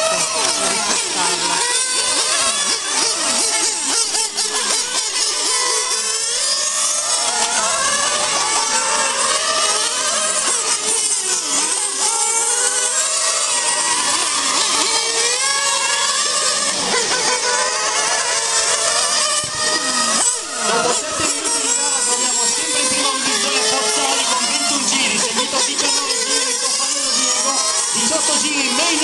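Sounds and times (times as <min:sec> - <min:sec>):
model car motors buzzing: 0:00.0 - 0:29.0.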